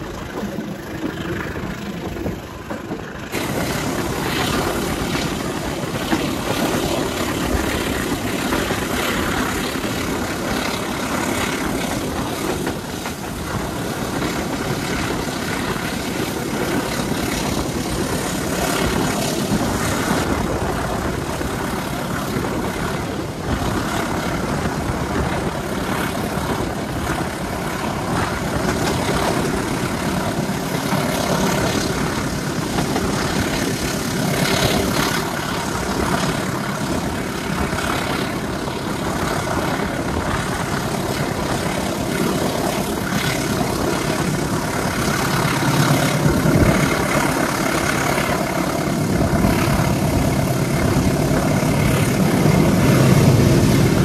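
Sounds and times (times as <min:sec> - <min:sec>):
locomotive diesel engine running: 0:00.0 - 0:54.0
moving train noise: 0:00.0 - 0:54.0.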